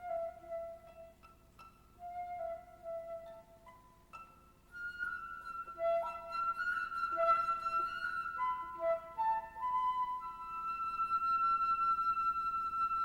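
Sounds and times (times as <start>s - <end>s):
flute-like melody: 0.0s - 1.3s, 2.0s - 13.0s
koto music: 0.0s - 13.0s.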